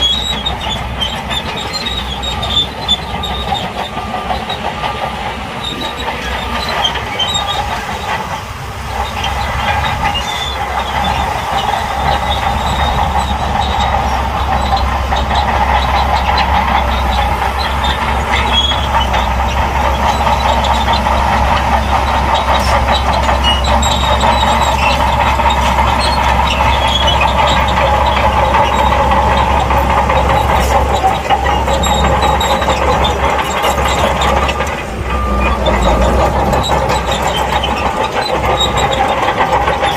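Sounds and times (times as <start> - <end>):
bulldozer diesel engine: 0.0 - 39.9
steel tracks clattering and squealing: 0.0 - 39.9.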